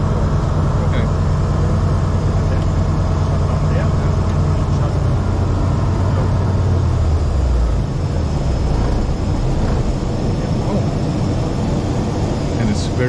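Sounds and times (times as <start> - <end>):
aircraft engine running: 0.0 - 13.0
airflow rush and rumble: 0.0 - 13.0.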